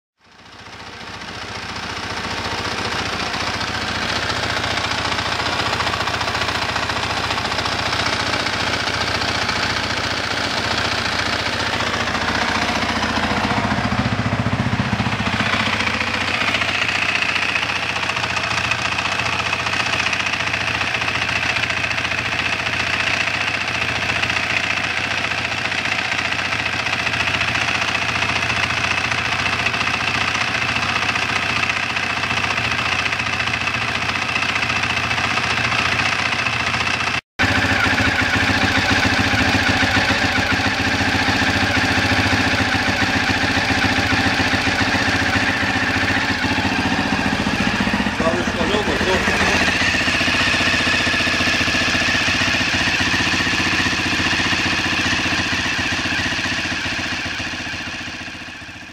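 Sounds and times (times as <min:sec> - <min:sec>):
dirt bike engine idling: 0:00.2 - 0:58.9.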